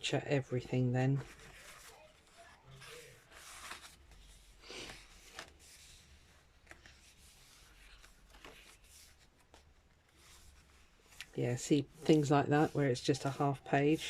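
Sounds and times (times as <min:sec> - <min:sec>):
pages turning: 0:01.2 - 0:14.0
paper rustling swishes: 0:01.2 - 0:14.0.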